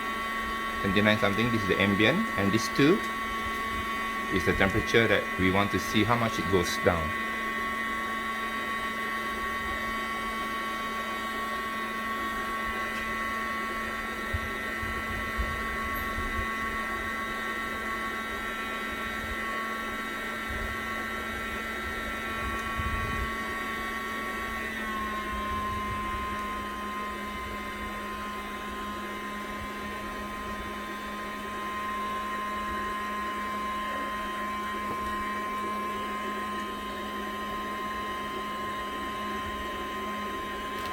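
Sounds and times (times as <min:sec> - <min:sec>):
small electric motor whining: 0:00.0 - 0:40.9.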